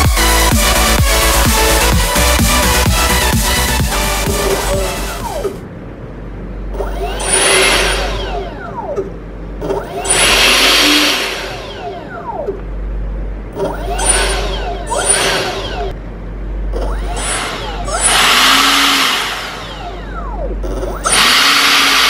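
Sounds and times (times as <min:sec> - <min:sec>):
electric ducted fan revving: 0:00.0 - 0:22.0.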